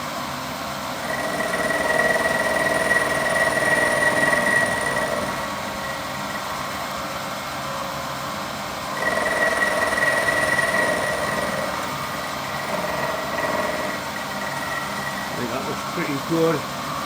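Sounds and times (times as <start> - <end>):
milling machine cutting whine: 1.0 - 7.4, 8.8 - 17.0.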